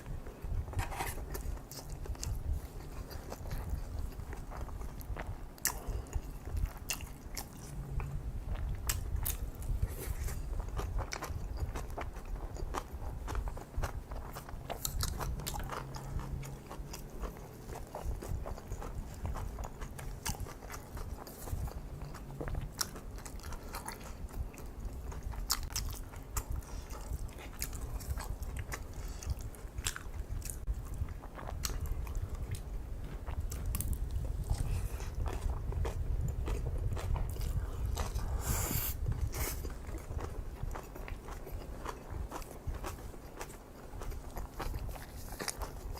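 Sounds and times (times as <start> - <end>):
close chewing with mouth clicks: 0.0 - 45.9.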